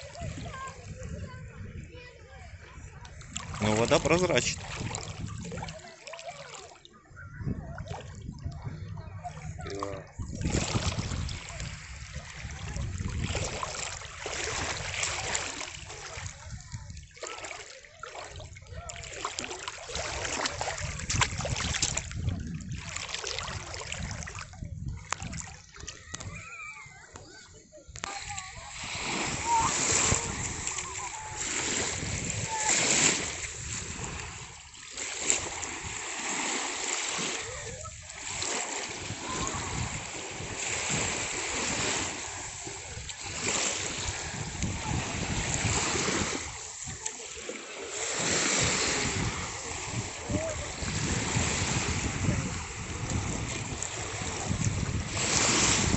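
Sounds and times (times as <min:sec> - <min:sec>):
wind rumbling on microphone: 0:00.0 - 0:05.9, 0:07.0 - 0:17.2, 0:18.2 - 0:47.1, 0:48.2 - 0:55.9
sea water splashing: 0:00.0 - 0:55.9.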